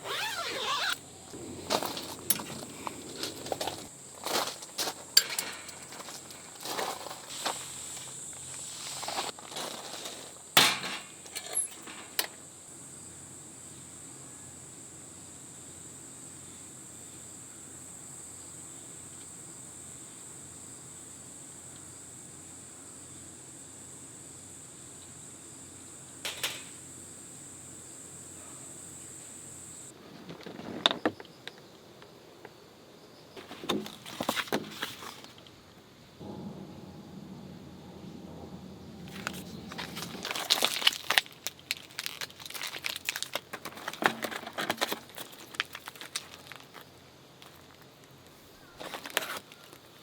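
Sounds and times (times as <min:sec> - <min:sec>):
crickets chirring: 0:00.0 - 0:50.0.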